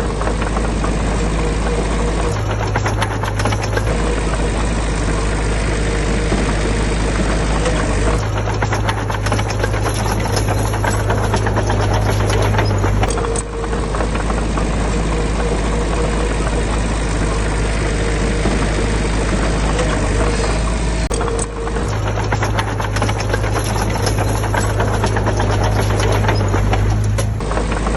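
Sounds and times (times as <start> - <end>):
diesel engine clattering: 0.0 - 27.9.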